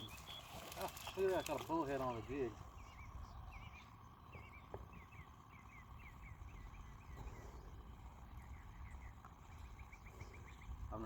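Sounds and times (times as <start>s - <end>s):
low steady rumble: 0.0s - 11.0s
songbird singing: 0.0s - 11.0s.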